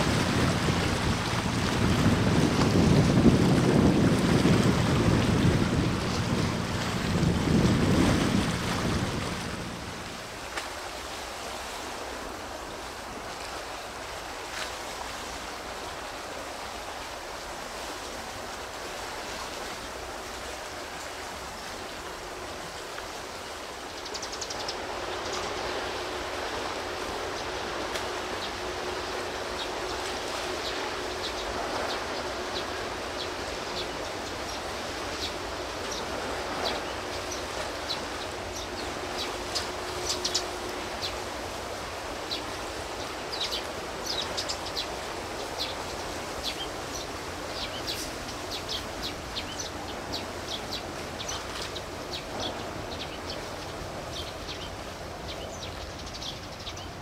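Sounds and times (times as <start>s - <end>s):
sea water: 0.0s - 57.0s
wind: 0.0s - 57.0s.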